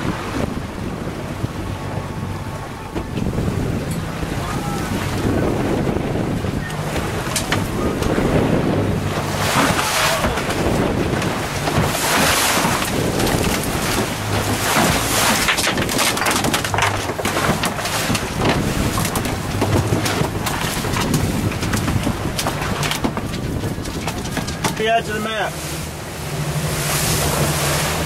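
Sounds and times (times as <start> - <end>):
boat engine running: 0.0 - 28.0
water rushing past hull: 0.0 - 28.0
wind buffeting microphone: 0.0 - 28.0.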